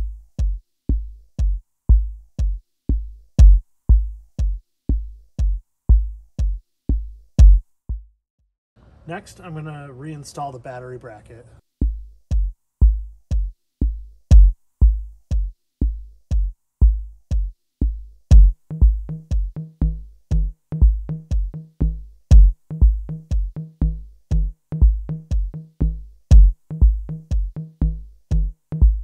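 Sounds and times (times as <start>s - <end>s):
bass line: 0.0s - 8.1s, 11.8s - 29.0s
drum machine beat: 0.0s - 8.1s, 11.8s - 29.0s.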